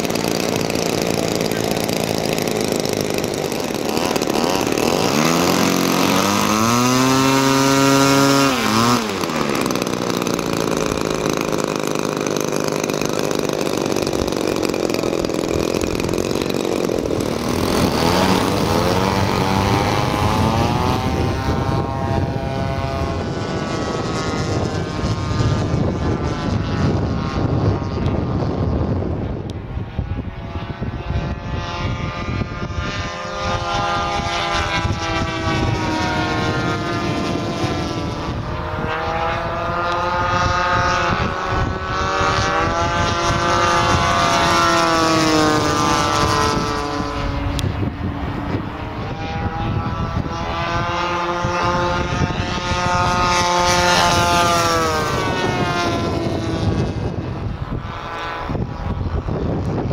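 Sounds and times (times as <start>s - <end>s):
model airplane engines droning overhead: 0.0s - 59.9s.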